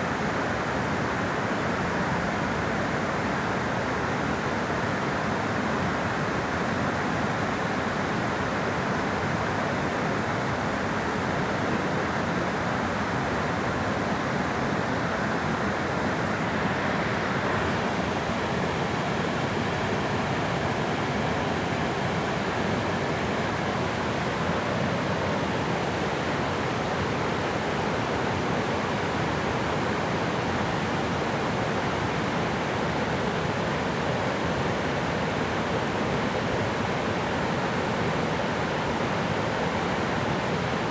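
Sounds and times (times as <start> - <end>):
water rushing at a dam: 0.0 - 40.9.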